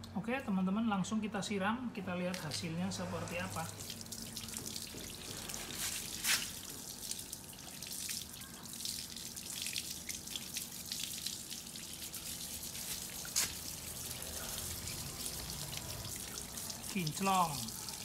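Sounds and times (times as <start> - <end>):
hose water splashing and dripping: 2.4 - 18.0.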